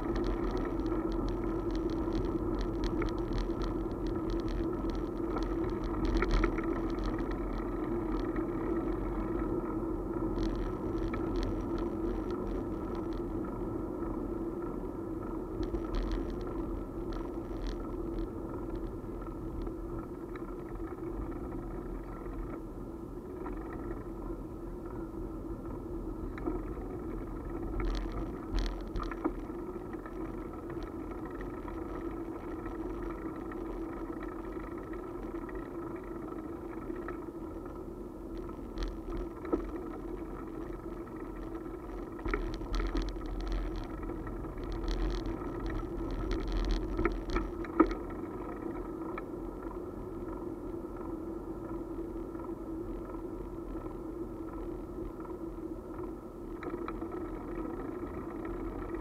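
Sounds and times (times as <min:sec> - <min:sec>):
low wind rumble: 0:00.0 - 0:59.0
steady hum: 0:00.0 - 0:59.0.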